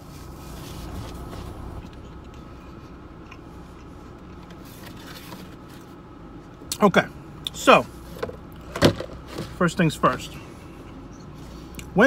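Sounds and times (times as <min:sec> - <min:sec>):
low car cabin rumble: 0:00.0 - 0:12.0.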